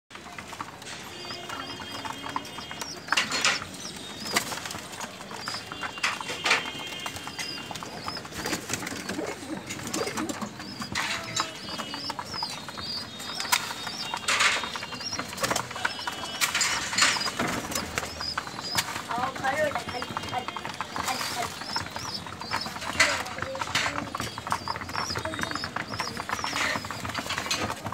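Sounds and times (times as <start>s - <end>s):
beaks tapping on floor: 0.2s - 27.9s.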